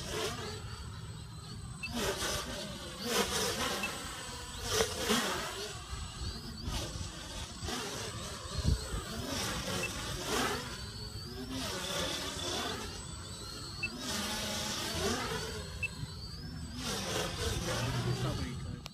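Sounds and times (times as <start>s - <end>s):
quadcopter propellers whirring: 0.0s - 18.9s.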